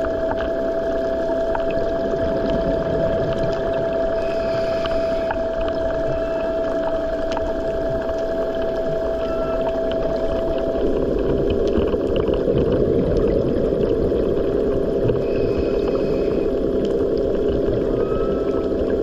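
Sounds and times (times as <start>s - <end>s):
faint steady hum: 0.0s - 19.0s
underwater rush of water: 0.0s - 19.0s.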